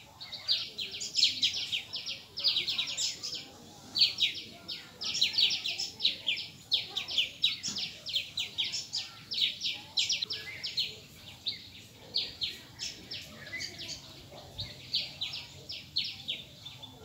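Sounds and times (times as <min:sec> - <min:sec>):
rapid high-pitched chirping calls: 0:00.0 - 0:17.0.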